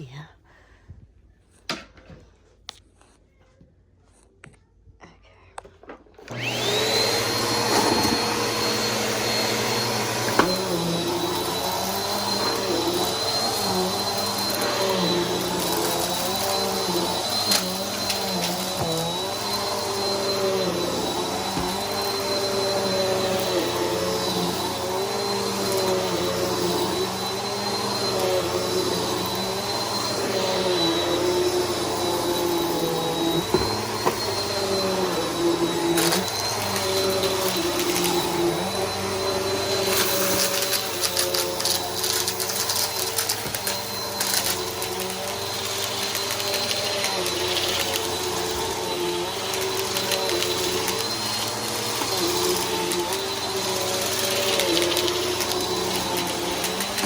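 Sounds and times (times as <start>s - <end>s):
vacuum cleaner motor whine: 6.2s - 57.0s.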